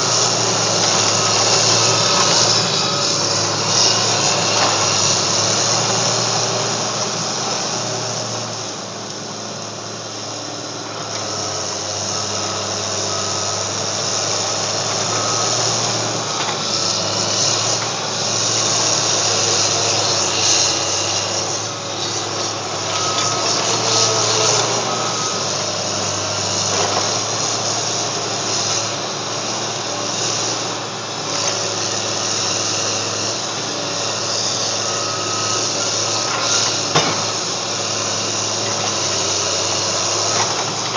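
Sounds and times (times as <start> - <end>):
bulldozer diesel engine: 0.0 - 40.9.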